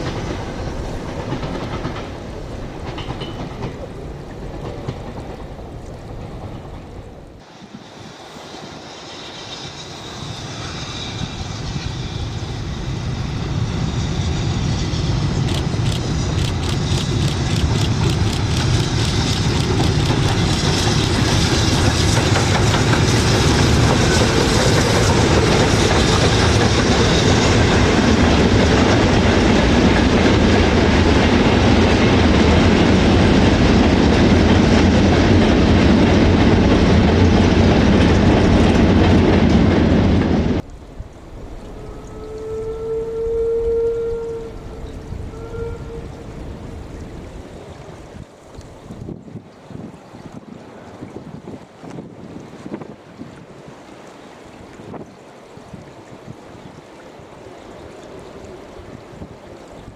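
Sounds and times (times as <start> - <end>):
wheels rumbling on track: 0.0 - 7.9, 8.9 - 49.2
steam train passing: 0.0 - 49.2.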